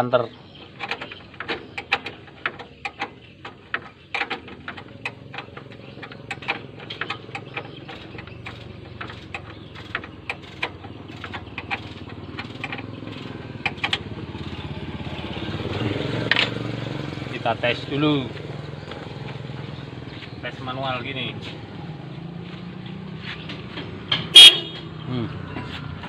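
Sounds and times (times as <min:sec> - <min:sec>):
engine hum: 0:00.0 - 0:26.0.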